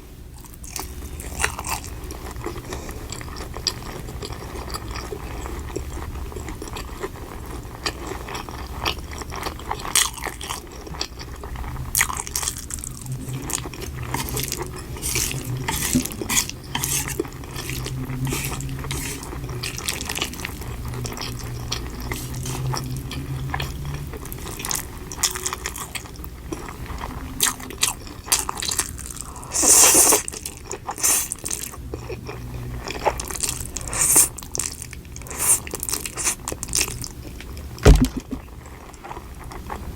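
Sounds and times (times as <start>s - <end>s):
chewing and wet mouth sounds: 0.3s - 39.9s.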